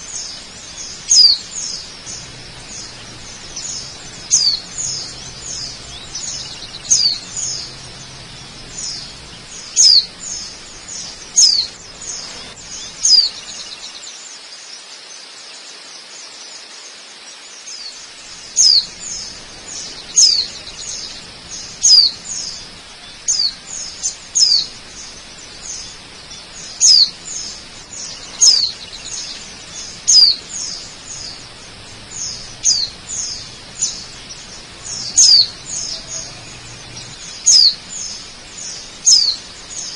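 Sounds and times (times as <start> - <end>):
bird high chirps: 0.0 - 14.0, 17.7 - 39.9
waterfall rushing: 0.0 - 14.1, 16.9 - 39.9.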